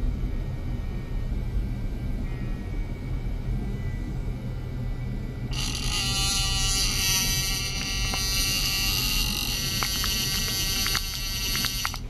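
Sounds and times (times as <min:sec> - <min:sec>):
high-pitched electronic whine: 0:00.0 - 0:12.0
steady low hum: 0:00.0 - 0:12.0.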